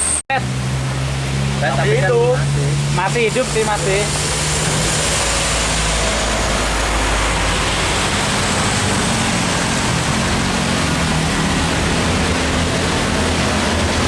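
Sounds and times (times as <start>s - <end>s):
diesel truck engine droning: 0.0s - 14.0s
rushing noise: 0.0s - 14.0s.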